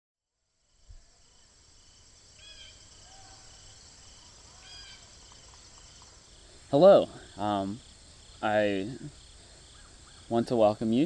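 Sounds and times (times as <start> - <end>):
cricket chirps: 0.4 - 11.0
insects buzzing: 0.4 - 11.0
brief insect calls: 0.5 - 11.0.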